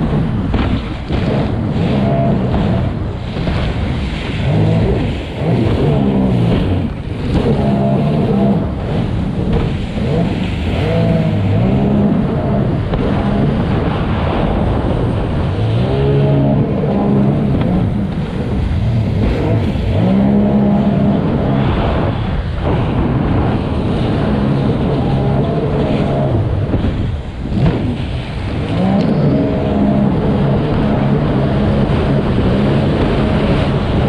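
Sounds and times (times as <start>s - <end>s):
personal watercraft engine revving: 0.0s - 34.0s
steady rush of noise: 0.0s - 34.0s.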